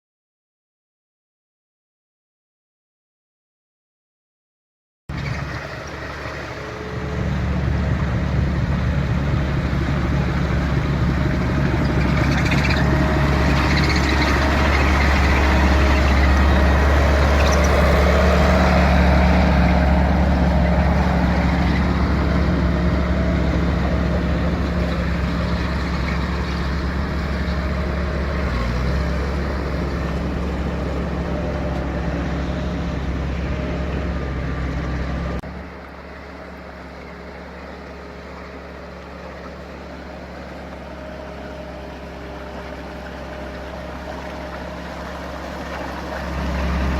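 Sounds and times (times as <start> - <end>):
loader engine running: 5.1 - 46.9.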